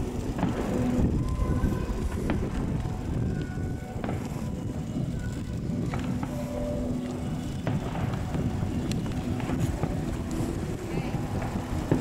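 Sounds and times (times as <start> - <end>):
boat engine rumble: 0.0 - 12.0
distant fireworks popping: 0.0 - 12.0
wind: 0.0 - 12.0.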